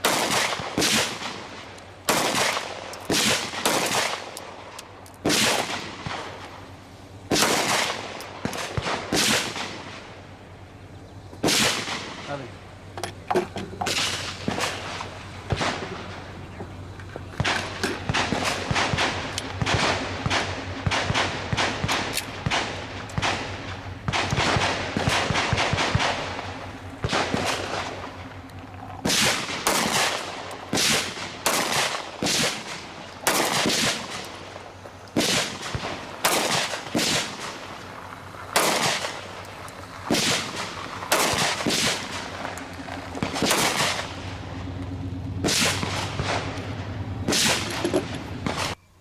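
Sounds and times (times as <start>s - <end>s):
gunshots with echo: 0.0s - 6.4s, 7.3s - 10.2s, 11.4s - 12.6s, 13.8s - 16.4s, 17.4s - 28.3s, 29.0s - 37.8s, 38.5s - 39.4s, 40.0s - 44.7s, 45.4s - 48.8s.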